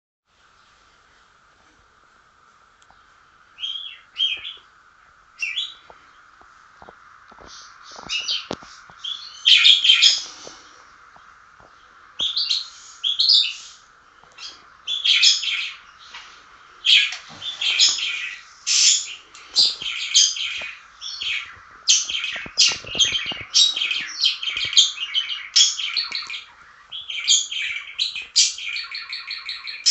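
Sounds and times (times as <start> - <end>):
faint steady hiss: 0.3 - 29.9
bird chirping and twittering: 2.9 - 4.7, 5.4 - 29.9.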